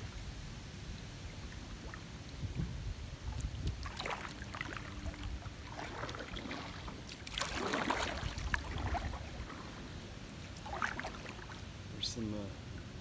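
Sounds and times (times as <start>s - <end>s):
paddle strokes splashing water: 1.2s - 11.9s.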